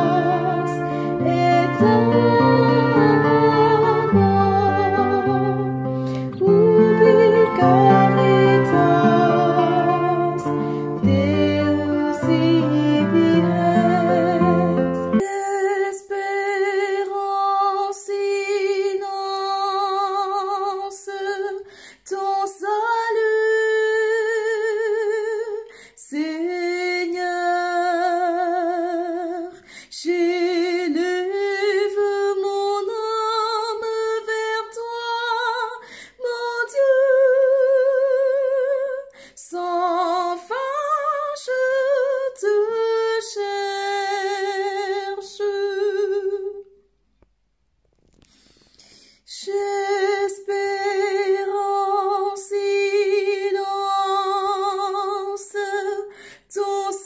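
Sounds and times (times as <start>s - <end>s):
woman singing a hymn: 0.0s - 46.7s, 49.3s - 57.0s.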